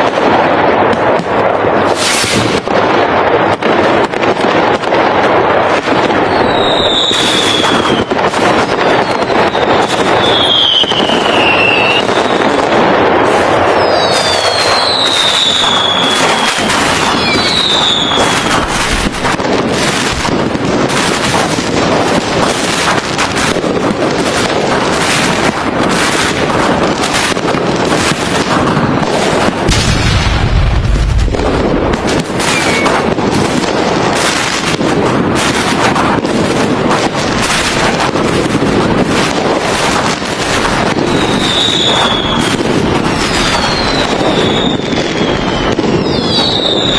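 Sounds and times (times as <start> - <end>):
deep firework boom: 0.0 - 46.9
fireworks banging and crackling: 0.0 - 46.9
fireworks whistling: 0.0 - 46.9.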